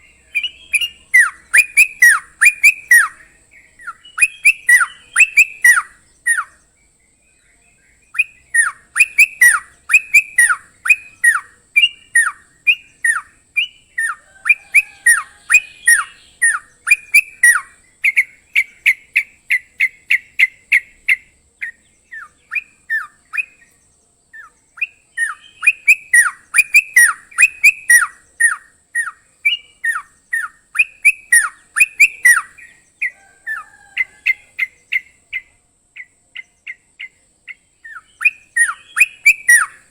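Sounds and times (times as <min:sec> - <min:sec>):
songbird singing sharp notes: 0:00.0 - 0:39.9.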